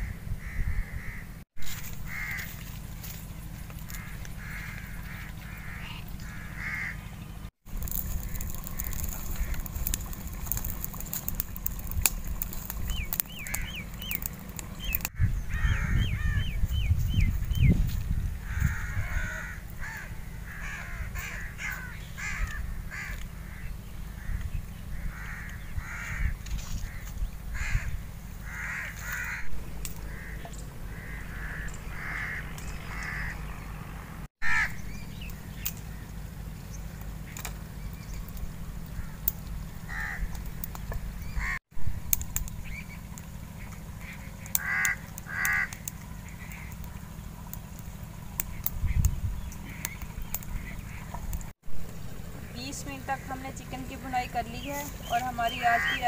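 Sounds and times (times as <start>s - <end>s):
crows cawing: 0.0s - 7.1s, 7.8s - 16.6s, 18.4s - 36.1s, 38.9s - 41.6s, 43.6s - 47.6s, 49.6s - 51.3s, 52.8s - 56.0s
steady low rumble: 0.0s - 56.0s.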